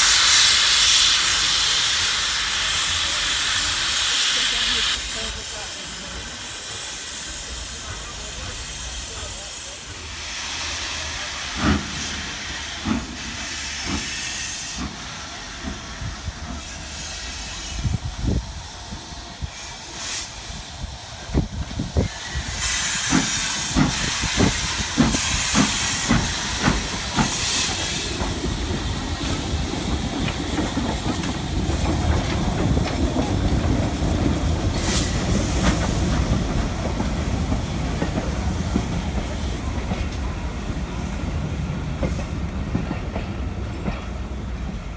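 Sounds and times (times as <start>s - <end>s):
steam hissing: 0.0s - 44.9s
steam locomotive exhaust beats: 0.0s - 44.9s
train coaches rumbling past: 0.0s - 44.9s.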